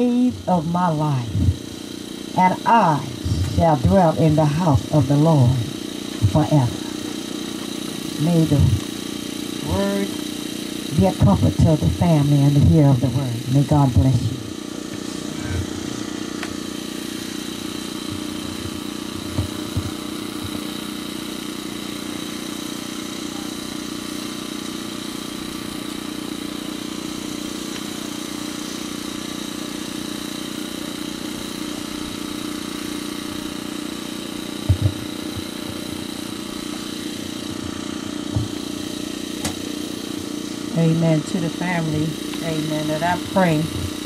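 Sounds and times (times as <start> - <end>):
steady engine hum: 0.0 - 44.0.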